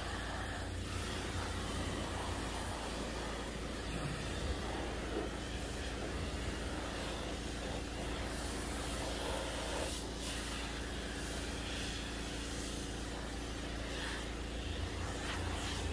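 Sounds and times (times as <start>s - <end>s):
pressure washer humming: 0.0s - 15.9s
spray hissing against metal: 0.0s - 15.9s.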